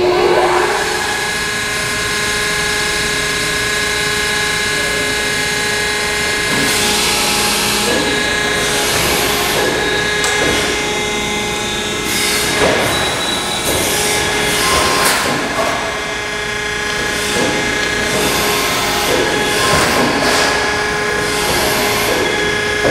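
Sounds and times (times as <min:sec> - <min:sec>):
hydraulic pump whine: 0:00.0 - 0:22.9.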